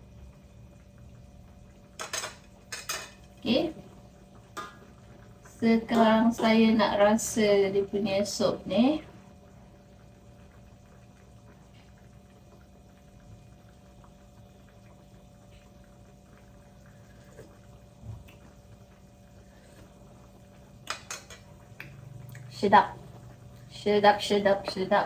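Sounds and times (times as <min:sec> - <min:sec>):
soup simmering: 0:00.0 - 0:25.0
steady low hum: 0:00.0 - 0:25.0.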